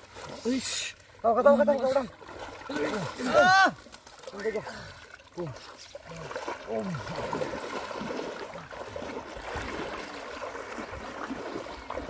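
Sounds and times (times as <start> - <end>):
river water gurgling: 0.0 - 12.0.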